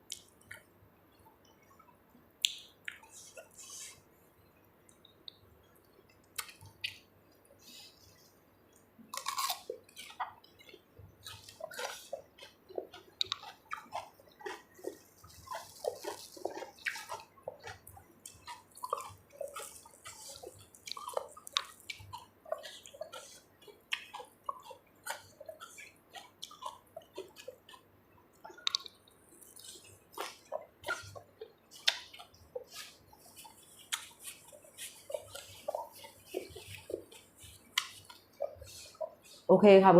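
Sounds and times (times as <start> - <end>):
wet chewing and slurping: 4.9 - 39.5.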